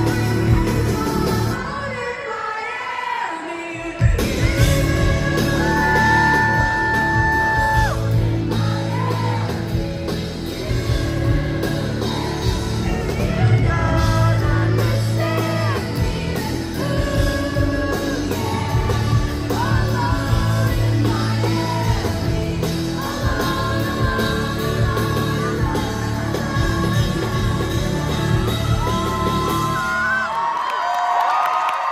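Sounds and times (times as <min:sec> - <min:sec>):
live pop-rock band playing: 0:00.0 - 0:02.3, 0:03.8 - 0:30.3
woman singing lead: 0:00.0 - 0:31.2.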